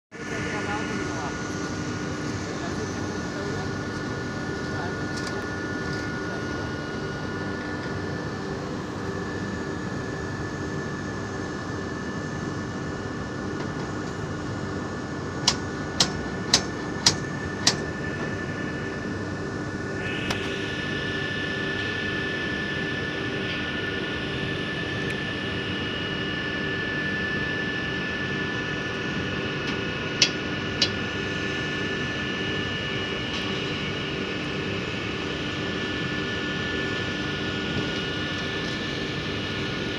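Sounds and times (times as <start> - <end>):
high machine whine: 0.1 - 39.9
industrial machinery drone: 0.1 - 39.9.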